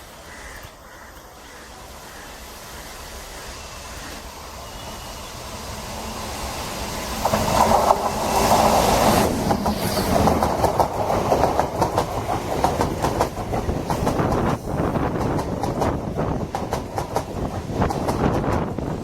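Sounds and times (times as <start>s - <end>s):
train passing: 0.0s - 19.0s.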